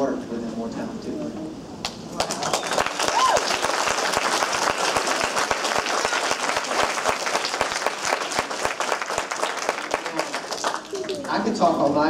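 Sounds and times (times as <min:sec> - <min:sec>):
audience applauding: 0:01.8 - 0:11.5.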